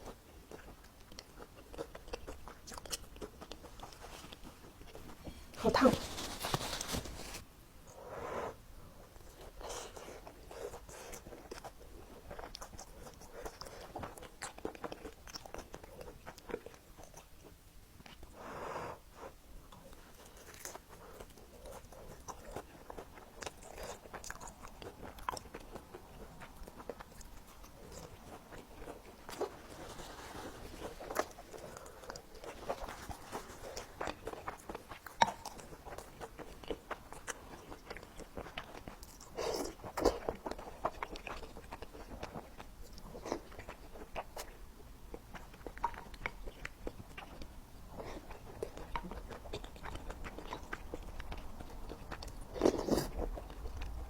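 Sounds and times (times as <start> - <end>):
person chewing crunchy food: 0.0 - 7.4, 9.0 - 18.5, 19.1 - 54.0.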